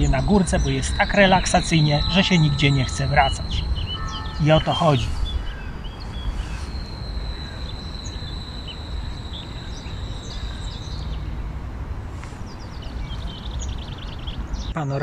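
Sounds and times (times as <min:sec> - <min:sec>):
fast bird trill: 0:00.0 - 0:11.7, 0:12.4 - 0:14.8
thin high tone: 0:00.0 - 0:12.2
steady low rumble: 0:00.0 - 0:14.8
small birds chirping: 0:00.0 - 0:15.0.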